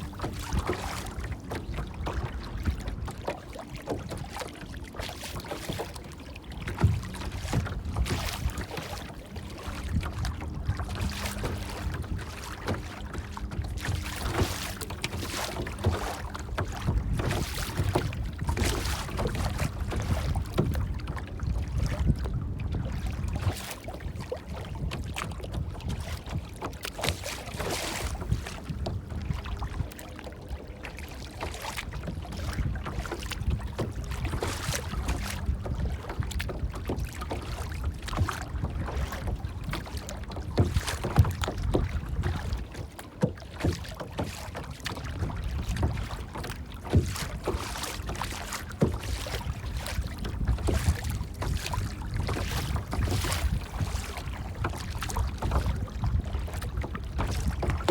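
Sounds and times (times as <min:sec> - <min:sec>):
water splashing and lapping: 0:00.0 - 0:57.9
wind rumble on microphone: 0:00.0 - 0:57.9.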